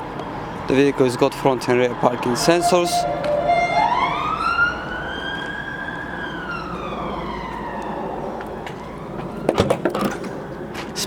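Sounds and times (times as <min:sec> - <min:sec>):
emergency siren wailing: 0:00.6 - 0:10.8.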